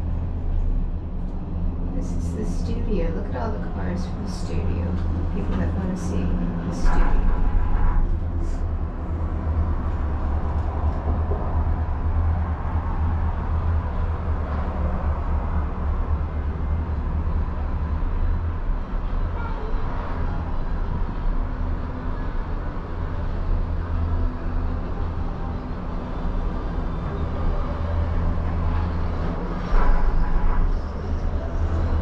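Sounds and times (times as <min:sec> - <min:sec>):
gondola cabin rumble: 0:00.0 - 0:32.0.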